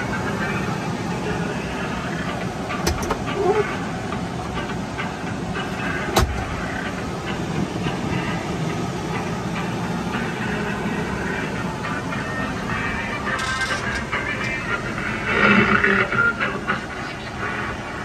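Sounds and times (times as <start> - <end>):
blower fan running: 0.0 - 18.0.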